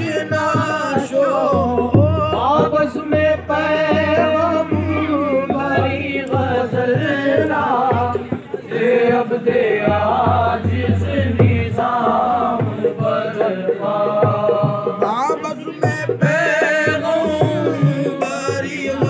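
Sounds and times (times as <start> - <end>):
rhythmic drum beat: 0.0 - 19.0.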